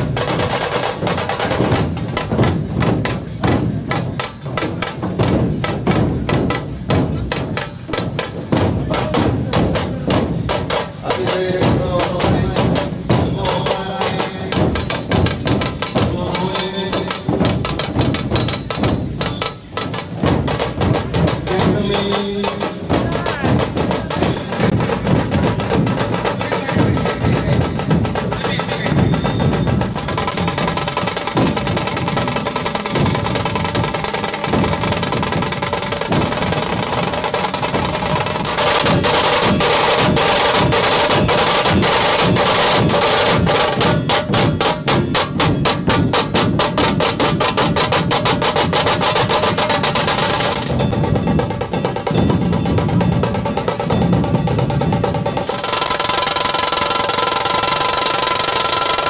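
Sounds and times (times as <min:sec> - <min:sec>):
drum ensemble drumming: 0:00.0 - 0:59.0.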